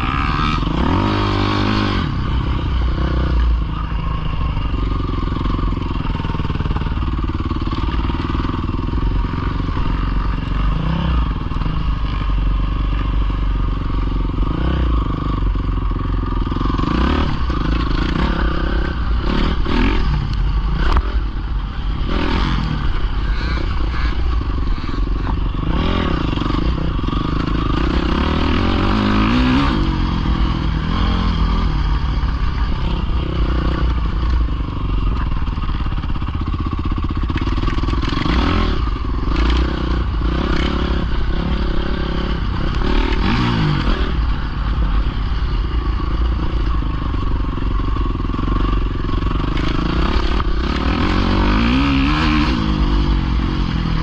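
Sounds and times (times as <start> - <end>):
pit bike engine revving: 0.0 - 54.0.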